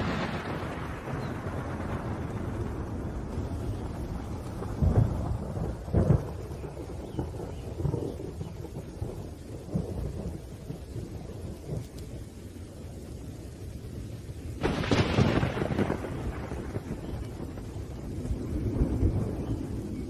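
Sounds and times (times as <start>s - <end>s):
rolling thunder: 0.0s - 20.0s
steady rain: 0.0s - 20.0s.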